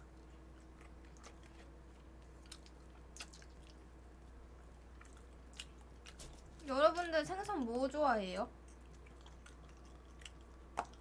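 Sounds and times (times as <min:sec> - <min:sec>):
person chewing food: 0:00.0 - 0:06.6, 0:08.6 - 0:11.0
low steady hum: 0:00.0 - 0:11.0.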